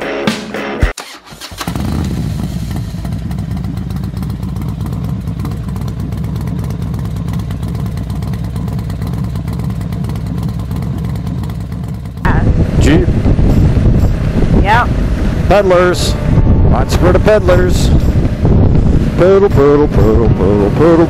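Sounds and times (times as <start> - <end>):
motorcycle engine running steadily: 1.6 - 21.0.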